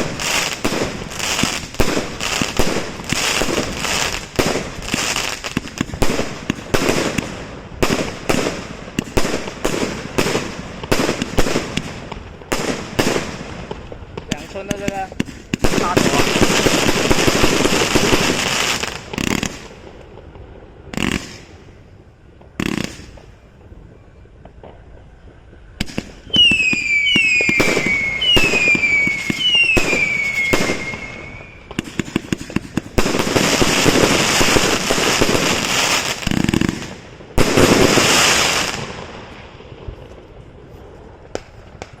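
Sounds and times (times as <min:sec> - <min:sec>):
whistling firework shots: 0:00.0 - 0:19.8, 0:22.6 - 0:40.3
fireworks bangs and crackle: 0:00.0 - 0:42.0.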